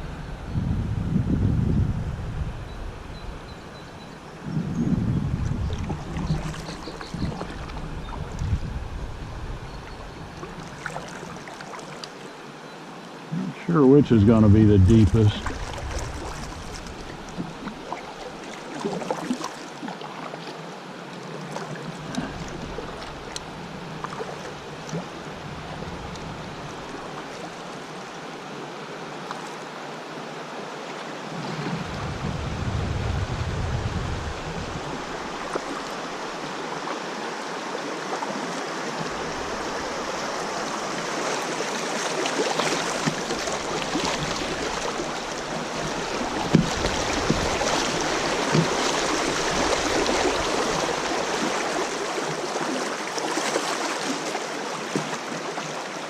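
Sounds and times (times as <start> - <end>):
river water rushing: 5.8 - 32.4, 33.8 - 56.0.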